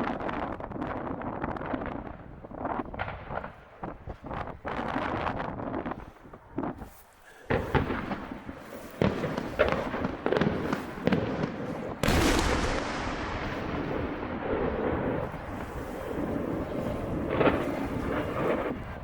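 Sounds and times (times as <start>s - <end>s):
fireworks bursting with bangs: 0.0s - 19.0s
fireworks rumble and crackle: 0.0s - 19.0s.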